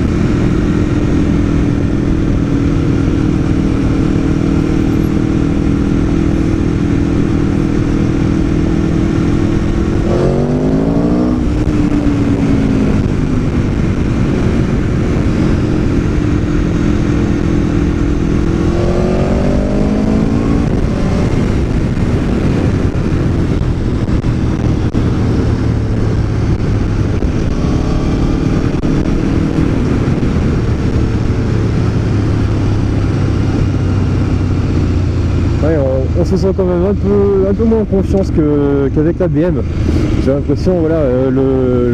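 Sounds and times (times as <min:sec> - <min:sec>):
motorcycle engine revving: 0:00.0 - 0:41.9
steady rushing noise: 0:00.0 - 0:41.9.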